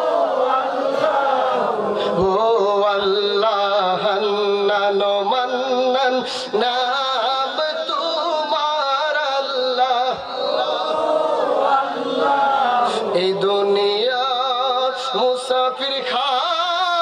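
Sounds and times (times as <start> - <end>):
man singing devotional song: 0.0 - 11.0, 12.8 - 17.0.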